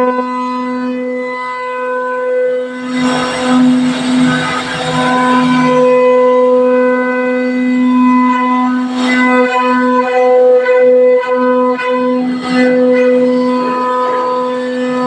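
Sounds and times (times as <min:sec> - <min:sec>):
router whining: 0:02.8 - 0:15.0.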